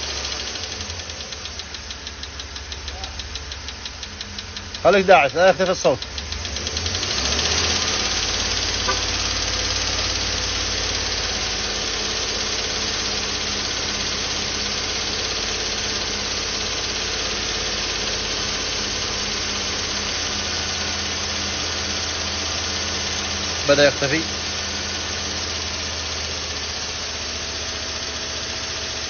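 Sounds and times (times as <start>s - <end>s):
engine running with lifter tick: 0.0s - 29.0s.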